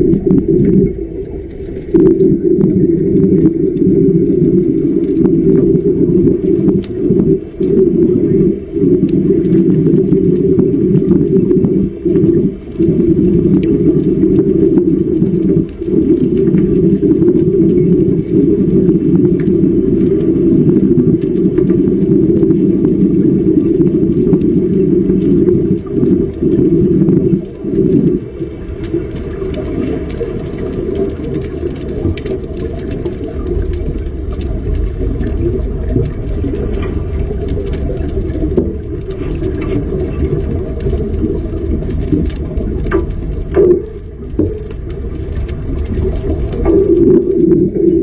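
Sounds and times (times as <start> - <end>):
low rumbling noise: 0.0 - 48.0.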